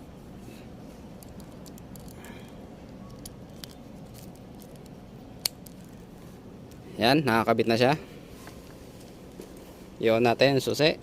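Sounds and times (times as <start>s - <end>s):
faint handling noises: 0.0s - 10.8s
steady low background noise: 0.0s - 11.0s.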